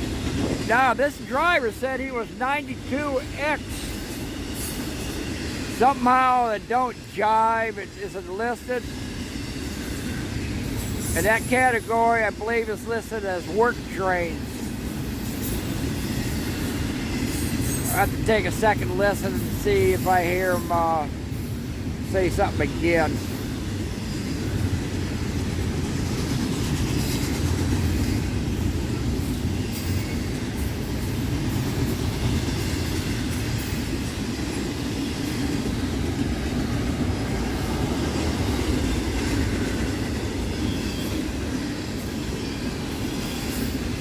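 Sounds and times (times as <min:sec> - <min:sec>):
rail joints clicking: 0:00.0 - 0:44.0
train wheels rumbling on rail: 0:00.0 - 0:44.0.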